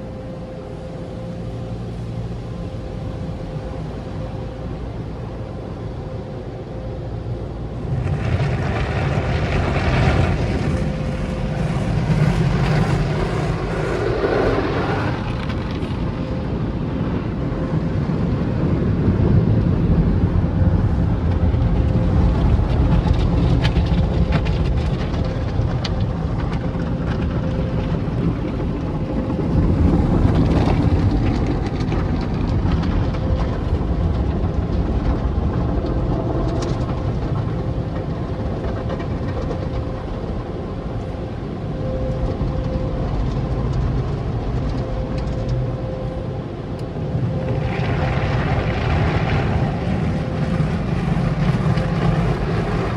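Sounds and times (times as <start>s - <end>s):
car wash rushing rumble: 0.0s - 52.9s
faint steady hum: 0.0s - 52.9s.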